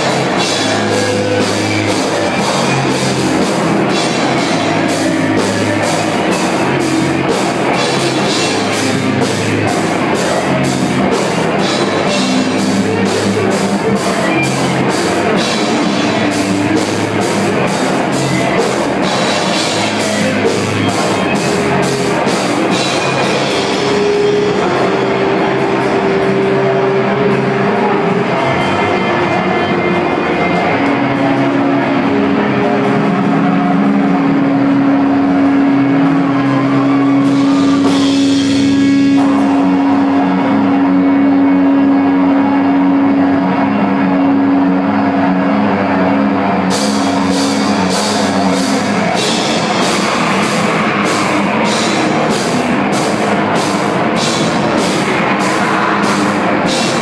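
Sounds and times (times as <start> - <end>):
distorted guitar: 0.0 - 57.0
fast drumming with cymbals: 0.0 - 57.0
rock band playing: 0.0 - 57.0.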